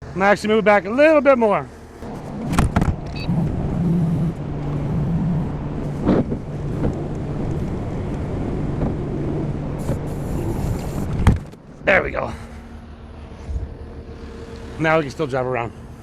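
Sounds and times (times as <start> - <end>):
vehicle engine running: 1.7 - 16.0.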